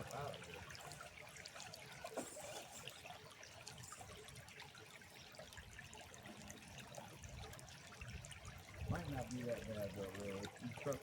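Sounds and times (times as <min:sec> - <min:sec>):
faint trickle of water: 0:00.0 - 0:11.0.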